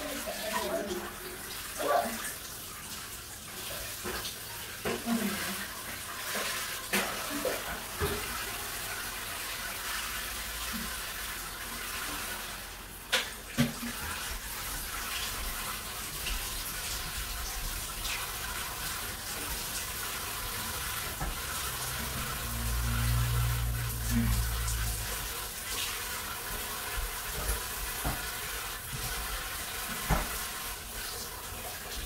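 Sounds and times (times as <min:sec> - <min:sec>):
shower water running: 0:00.0 - 0:32.0.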